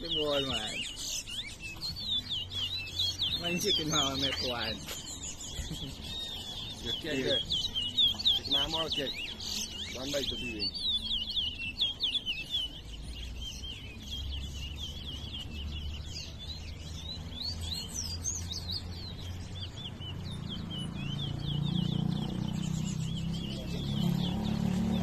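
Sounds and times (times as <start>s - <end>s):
finches twittering song: 0.0s - 25.0s.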